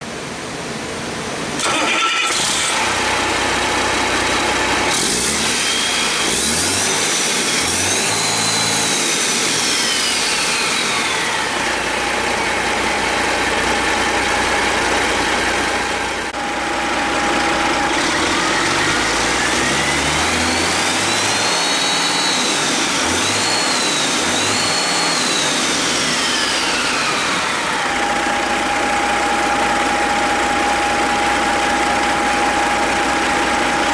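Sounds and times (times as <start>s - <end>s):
diesel engine starting and idling: 0.1s - 33.9s
diesel engine revving: 1.6s - 33.9s.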